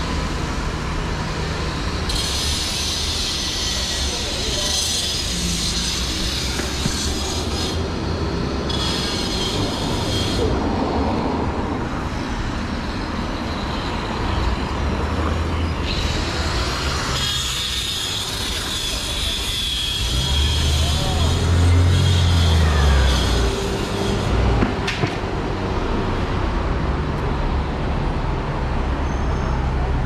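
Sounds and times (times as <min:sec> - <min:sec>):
vehicle rumble: 0:00.0 - 0:30.0.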